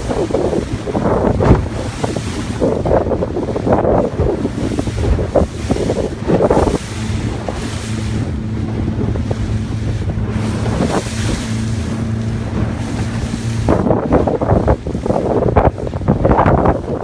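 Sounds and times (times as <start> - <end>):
boat engine humming: 0.0 - 17.0
water rushing: 0.0 - 17.0
wind buffeting microphone: 0.0 - 17.0.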